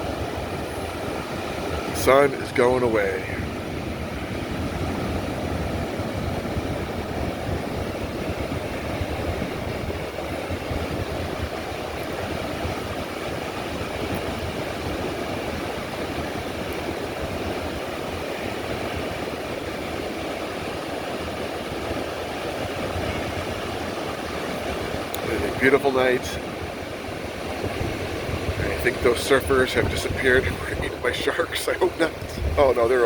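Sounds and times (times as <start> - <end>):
ocean surf rushing: 0.0 - 33.0
wind buffeting microphone: 0.0 - 33.0.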